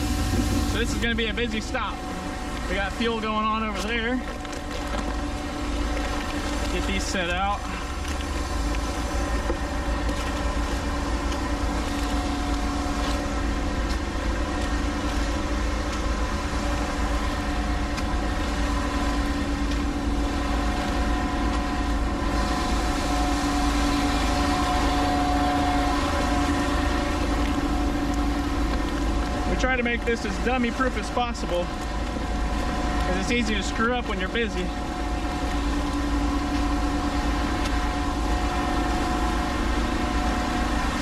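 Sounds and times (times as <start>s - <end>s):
engine humming steadily: 0.0s - 41.0s.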